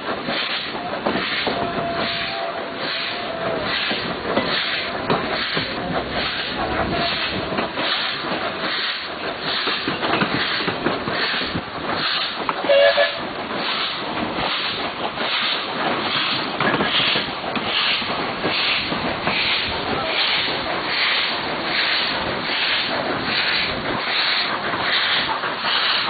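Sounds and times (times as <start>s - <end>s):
steam hiss: 0.0s - 26.0s
steam locomotive exhaust chuffing: 0.0s - 26.0s.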